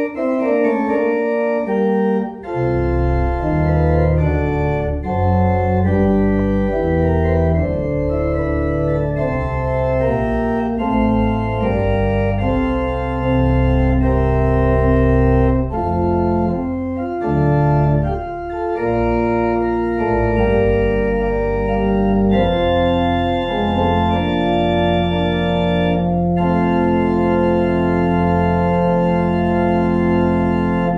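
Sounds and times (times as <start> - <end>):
organ playing slow held chords: 0.0 - 30.9
steady deep bass: 0.0 - 30.9.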